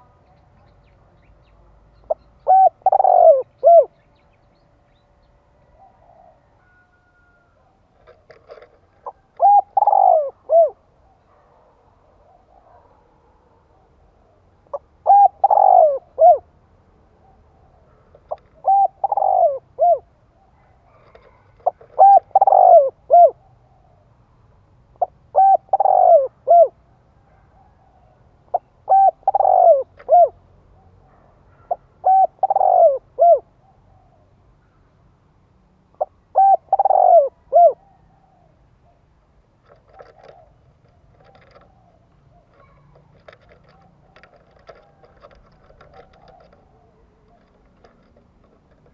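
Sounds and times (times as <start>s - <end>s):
faint scattered noises: 0.0s - 48.9s
dove cooing: 2.0s - 4.1s, 5.6s - 16.6s, 17.2s - 24.1s, 25.0s - 34.3s, 35.9s - 48.9s.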